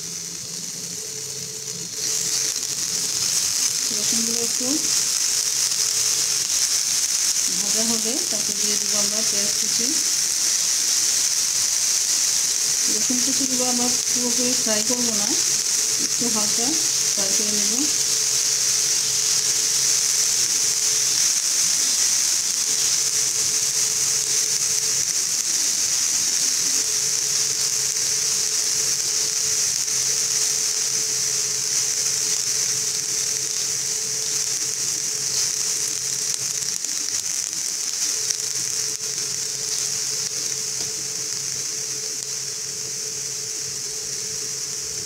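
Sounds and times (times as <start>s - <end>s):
garlic sizzling in hot oil: 0.0s - 45.0s.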